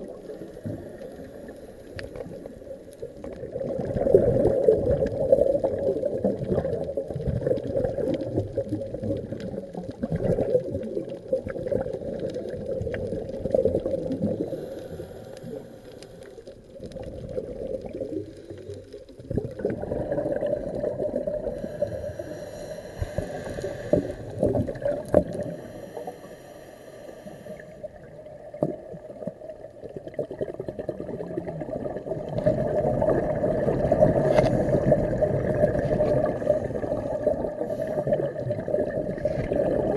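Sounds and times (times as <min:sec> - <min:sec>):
regulator bubbles gurgling underwater: 0:00.0 - 0:39.9.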